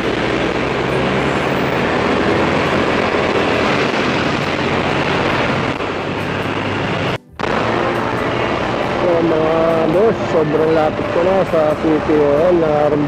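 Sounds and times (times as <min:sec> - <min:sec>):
motorcycle engine humming: 0:00.0 - 0:13.0
road and wind noise: 0:00.0 - 0:13.0.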